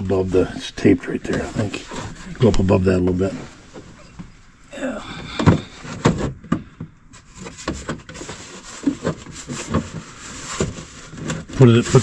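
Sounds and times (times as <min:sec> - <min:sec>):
plastic knocking and scraping: 0:01.2 - 0:04.3, 0:05.2 - 0:12.0.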